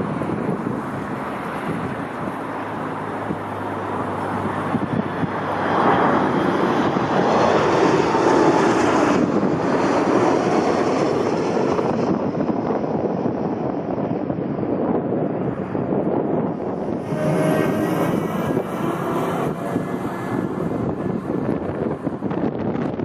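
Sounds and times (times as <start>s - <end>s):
airliner engine roar: 0.0s - 23.0s.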